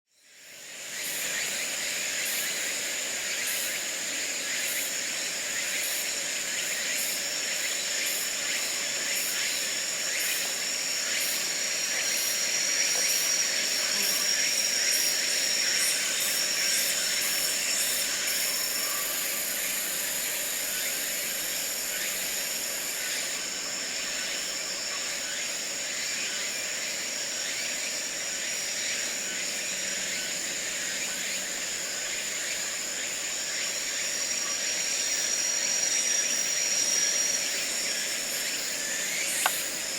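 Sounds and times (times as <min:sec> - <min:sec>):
rapidly pulsing insect call: 0:00.1 - 0:39.9
insects trilling: 0:00.2 - 0:39.9
very high insect buzz: 0:00.2 - 0:39.9.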